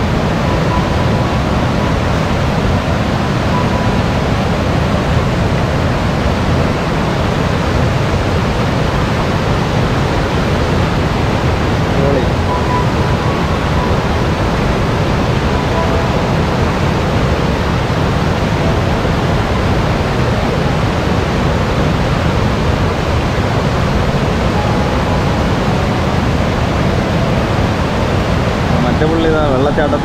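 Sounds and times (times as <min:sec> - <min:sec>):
whitewater rushing over rock: 0:00.0 - 0:30.0.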